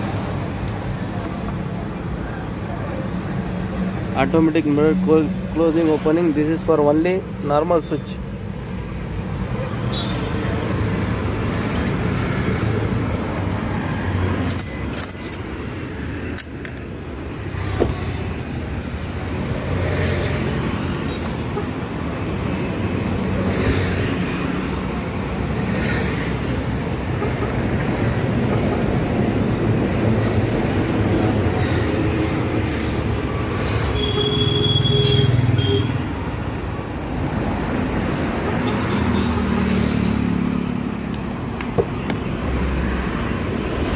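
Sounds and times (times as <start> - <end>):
vehicle engines rumbling: 0.0 - 43.9.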